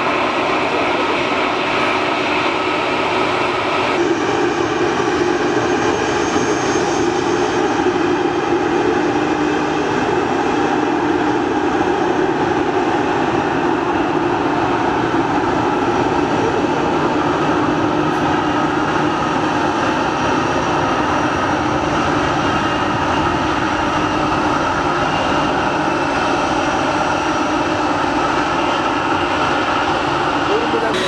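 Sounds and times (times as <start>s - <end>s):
jet engines idling: 0.0s - 31.0s.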